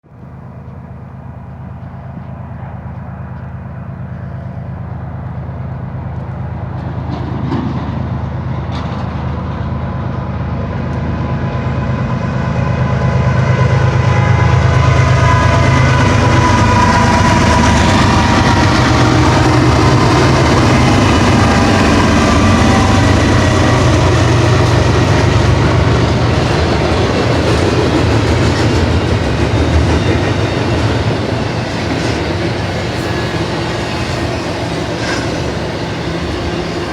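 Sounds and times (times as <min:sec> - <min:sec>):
diesel locomotive rumble: 0:00.0 - 0:36.9
train wheels on rails: 0:00.1 - 0:36.9.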